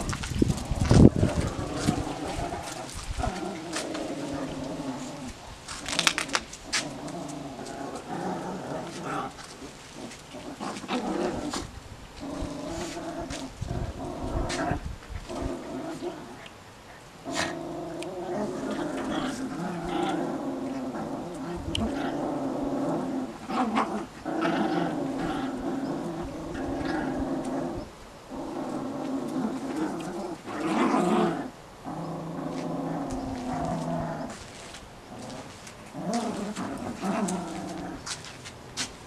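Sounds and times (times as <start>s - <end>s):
dogs growling in play: 0.0s - 16.6s, 17.2s - 38.4s.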